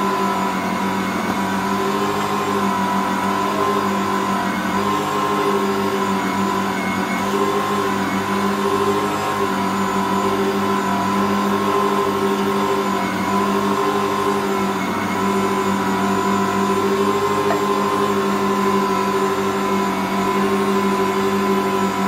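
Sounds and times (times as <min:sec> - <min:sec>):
stand mixer running: 0:00.0 - 0:22.0.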